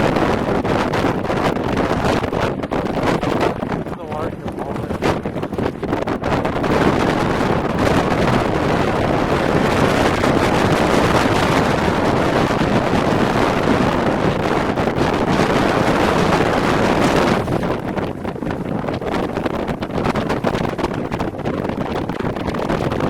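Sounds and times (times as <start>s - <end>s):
strong wind blasting microphone: 0.0s - 23.0s.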